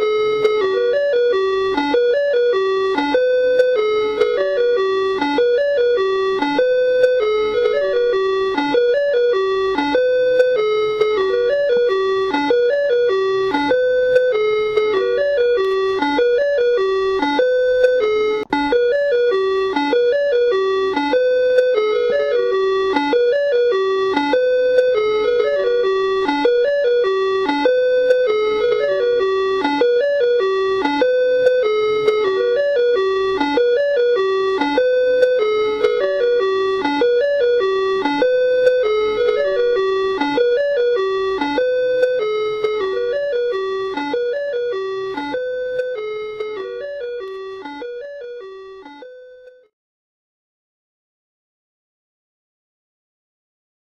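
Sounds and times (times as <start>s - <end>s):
ice cream truck chime melody: 0.0s - 49.7s.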